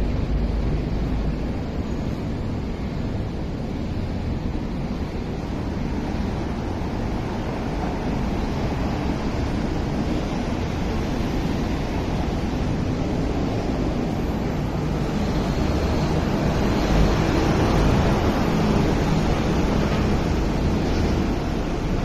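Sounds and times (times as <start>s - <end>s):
low rushing outdoor noise: 0.0s - 22.0s.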